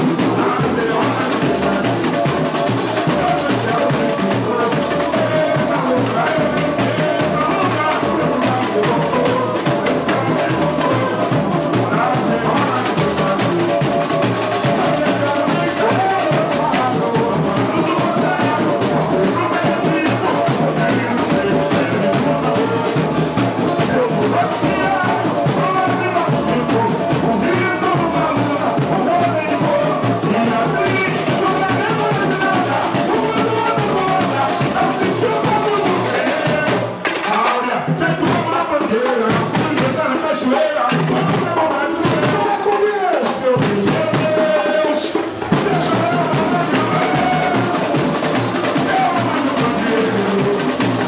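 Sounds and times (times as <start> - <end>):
person singing: 0.0 - 51.0
samba percussion beat: 0.0 - 51.0.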